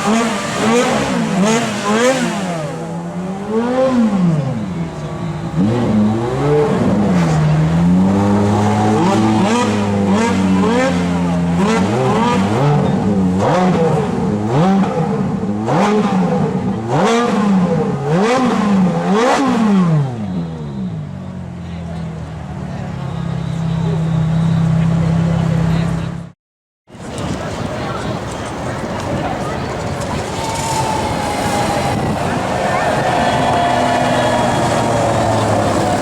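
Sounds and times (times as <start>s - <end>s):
car engines revving: 0.0s - 26.4s, 27.0s - 36.0s.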